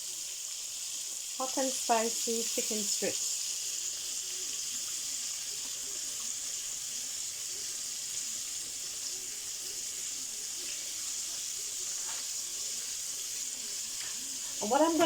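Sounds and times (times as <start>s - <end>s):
chicken frying sizzle: 0.0s - 15.0s.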